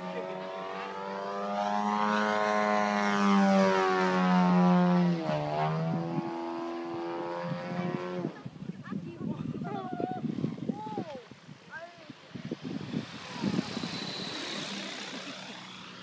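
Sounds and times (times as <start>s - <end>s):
model plane engine and propeller: 0.0s - 9.3s, 10.2s - 16.0s.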